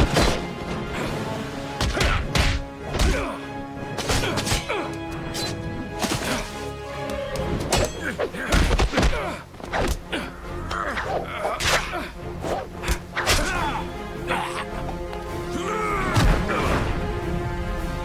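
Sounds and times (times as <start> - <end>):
dramatic orchestral music: 0.0 - 18.0.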